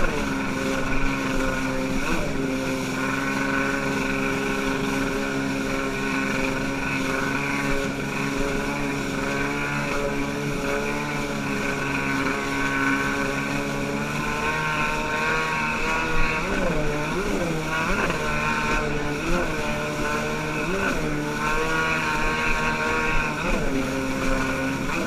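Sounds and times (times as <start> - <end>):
motorboat engine running: 0.0 - 25.0
water rushing: 0.0 - 25.0.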